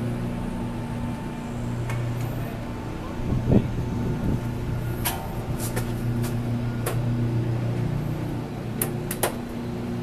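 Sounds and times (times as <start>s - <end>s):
ferry engines idling: 0.0s - 10.0s.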